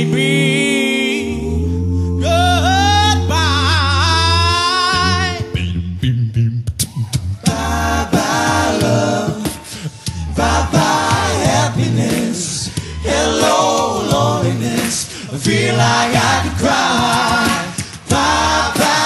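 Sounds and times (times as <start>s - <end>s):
male a cappella group singing: 0.0s - 5.8s, 7.4s - 19.0s.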